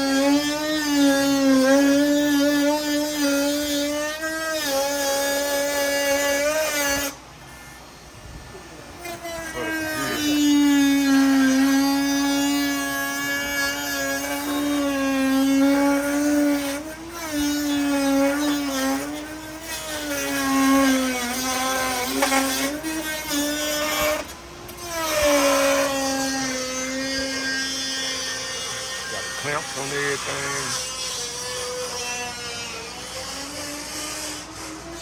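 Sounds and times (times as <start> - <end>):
power tool whining: 0.0 - 35.0.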